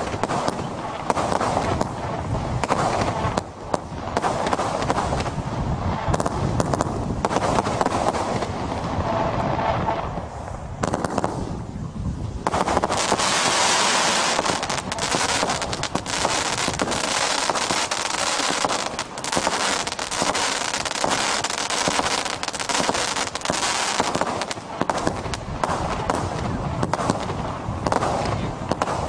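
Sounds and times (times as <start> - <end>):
firework cake firing rapid shots: 0.0 - 5.4, 6.1 - 8.8, 10.8 - 11.6, 12.5 - 29.0.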